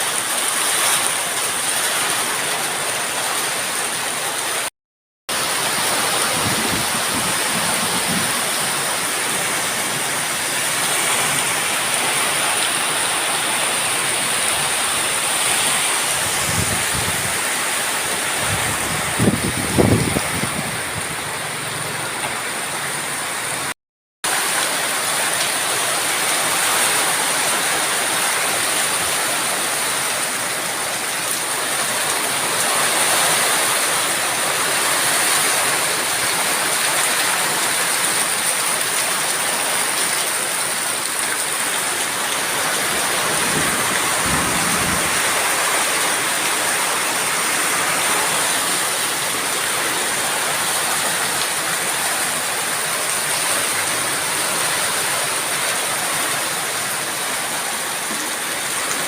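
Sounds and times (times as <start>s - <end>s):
steady rain falling: 0.0s - 4.7s, 5.3s - 59.0s.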